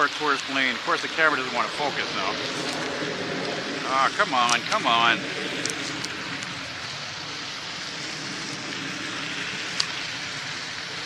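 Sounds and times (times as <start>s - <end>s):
turboprop airliner flying overhead: 0.0s - 11.0s.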